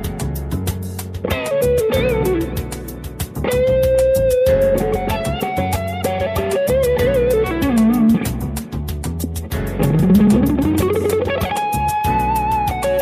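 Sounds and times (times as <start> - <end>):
bass: 0.0 - 13.0
drum beat: 0.0 - 13.0
electric guitar lead line: 1.2 - 13.0.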